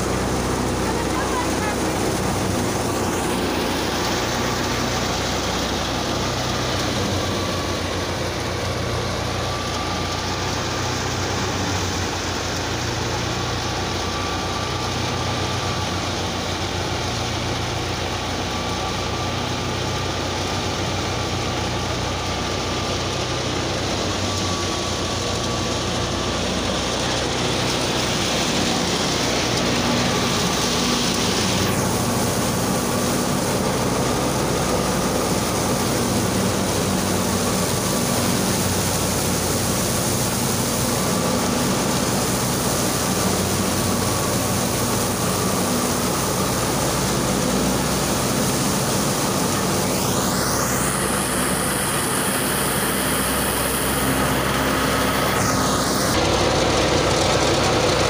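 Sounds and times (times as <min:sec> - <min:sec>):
thresher drum and fan rushing: 0:00.0 - 0:14.6, 0:20.4 - 0:58.0
tractor engine running: 0:00.0 - 0:58.0.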